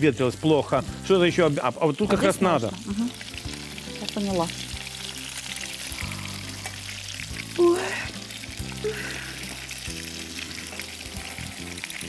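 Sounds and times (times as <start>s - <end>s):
background music: 0.0s - 12.0s
food frying in hot oil: 0.0s - 12.0s.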